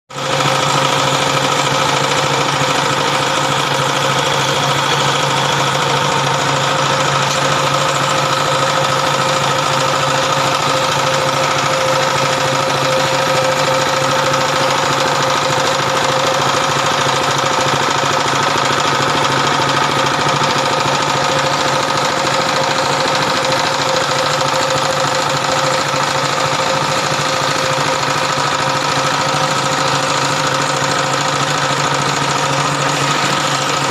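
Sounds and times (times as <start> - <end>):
machine motor hum and whine: 0.2 - 33.9.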